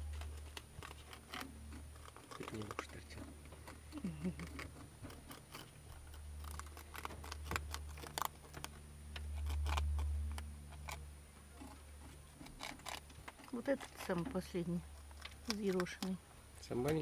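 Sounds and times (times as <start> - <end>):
low hum: 0.0 - 16.7
rabbits chewing: 0.0 - 17.0.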